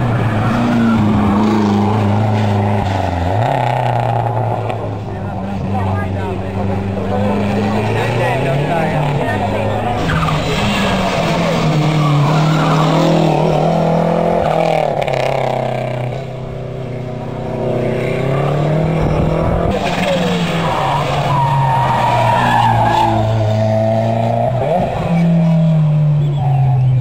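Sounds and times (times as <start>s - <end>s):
car engines revving hard: 0.0s - 27.0s.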